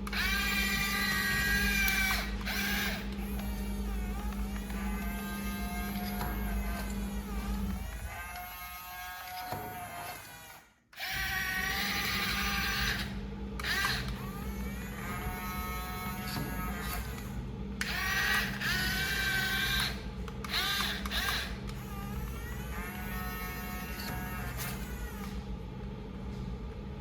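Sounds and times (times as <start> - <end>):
toy electric motors whirring: 0.0 - 25.4.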